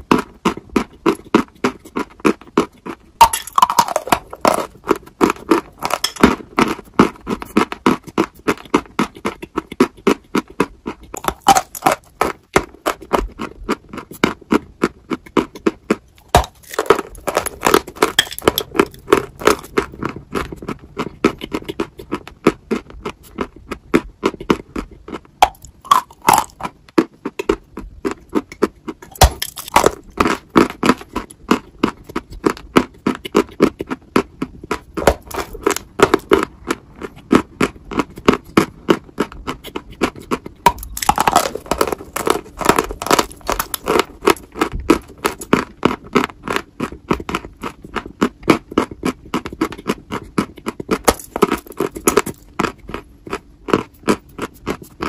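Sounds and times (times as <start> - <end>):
crunching and chewing chalk: 0.0 - 55.0.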